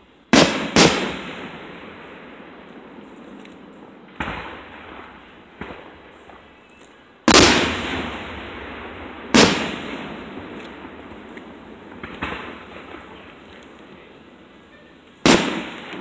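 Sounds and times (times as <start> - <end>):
firework shells booming: 0.3 - 3.0, 3.8 - 6.7, 7.3 - 16.0.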